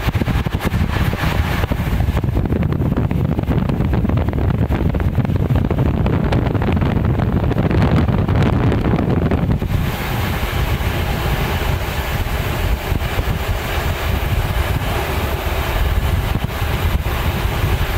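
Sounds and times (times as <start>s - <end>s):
train rumble: 0.0s - 17.9s
wind buffeting microphone: 0.0s - 17.9s.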